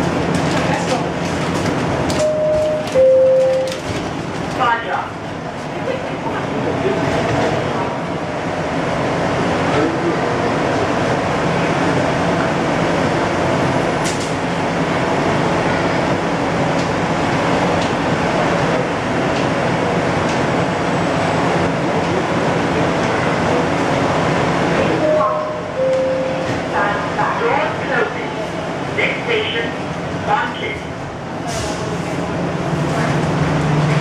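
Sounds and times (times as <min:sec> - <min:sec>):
people-mover cabin hum and rush: 0:00.0 - 0:34.0.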